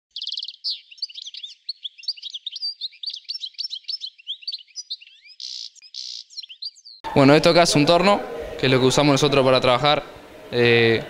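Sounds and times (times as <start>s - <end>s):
songbirds chirping: 0.1s - 11.0s.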